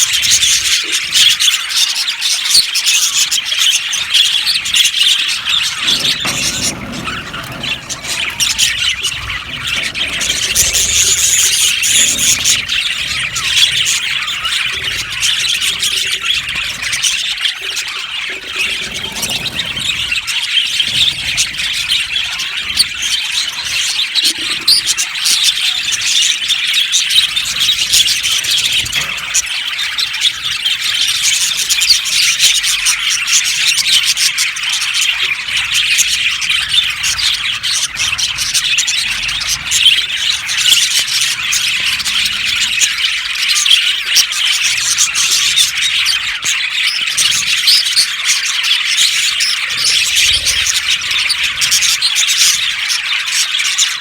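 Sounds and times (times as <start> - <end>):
flock of budgerigars chirping: 0.0 - 54.0.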